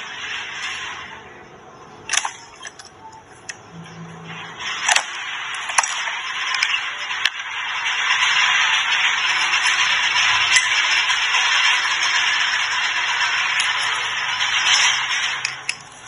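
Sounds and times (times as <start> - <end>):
screen printing machine working: 0.0 - 16.0
sharp clicks and clacks: 2.0 - 16.0.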